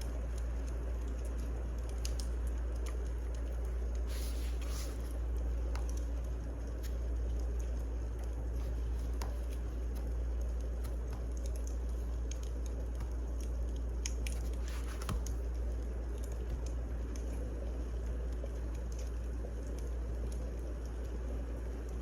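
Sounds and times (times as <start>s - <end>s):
fire crackles and pops: 0.0s - 22.0s
wood fire rumble: 0.0s - 22.0s.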